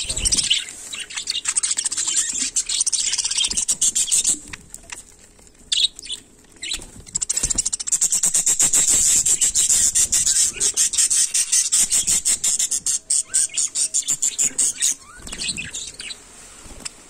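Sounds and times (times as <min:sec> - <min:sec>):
budgerigars chattering and chirping: 0:00.0 - 0:04.6, 0:05.7 - 0:16.2
beaks pecking at food: 0:00.0 - 0:16.2.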